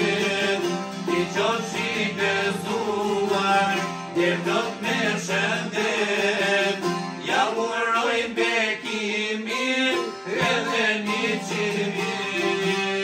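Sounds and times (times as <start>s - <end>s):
man singing: 0.0s - 13.0s
plucked lutes playing folk music: 0.0s - 13.0s.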